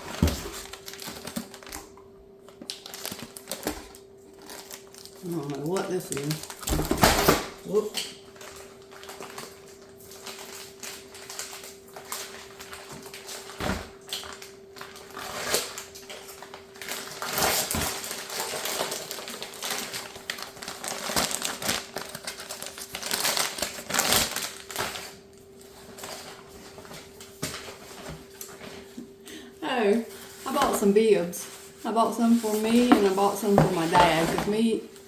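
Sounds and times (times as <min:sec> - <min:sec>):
plastic packaging crinkling: 0:00.0 - 0:29.1, 0:29.9 - 0:35.0.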